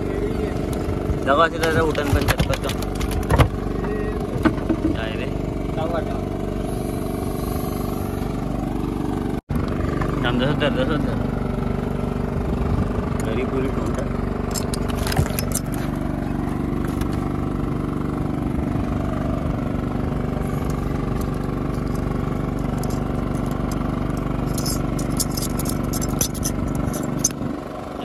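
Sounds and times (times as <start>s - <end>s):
boat engine drone: 0.0s - 28.0s.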